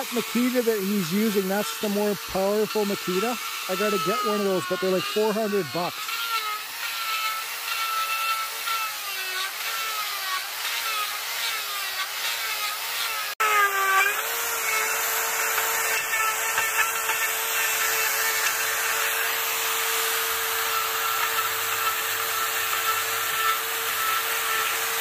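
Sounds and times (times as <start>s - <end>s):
chainsaw cutting into log: 0.0s - 25.0s.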